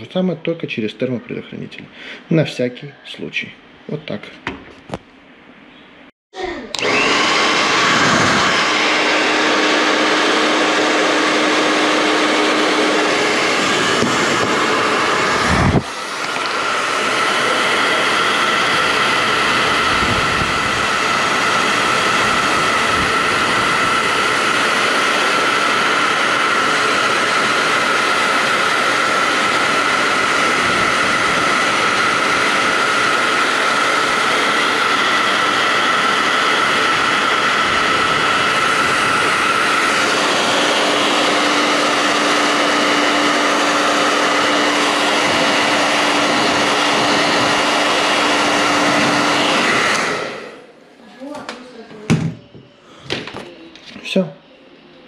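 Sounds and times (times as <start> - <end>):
hair dryer blowing: 6.4 - 51.4.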